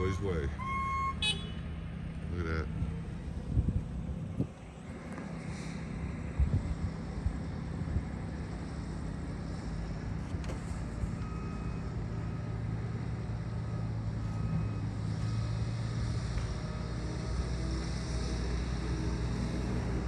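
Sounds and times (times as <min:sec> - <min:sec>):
heavy engine running: 0:00.0 - 0:20.0.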